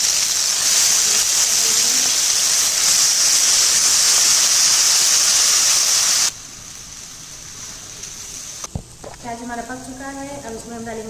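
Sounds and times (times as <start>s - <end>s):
paste sizzling in hot oil: 0.0s - 10.0s
frying hiss: 0.0s - 11.0s.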